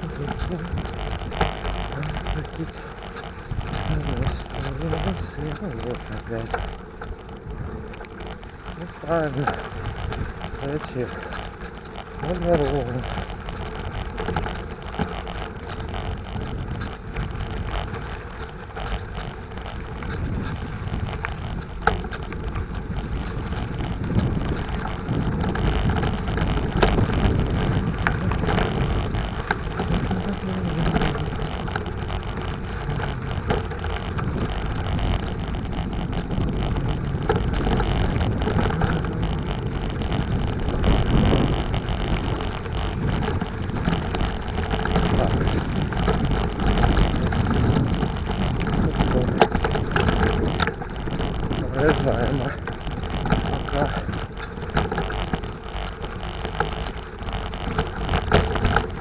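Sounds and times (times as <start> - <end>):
bicycle rolling noise: 0.0 - 59.0
bike knocks and rattles: 0.0 - 59.0
wind on microphone: 0.0 - 59.0.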